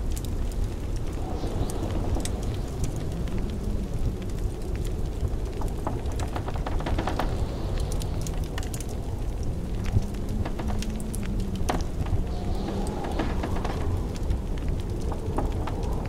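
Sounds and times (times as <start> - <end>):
howling blizzard wind: 0.0 - 16.0
wood fire crackling: 0.0 - 16.0.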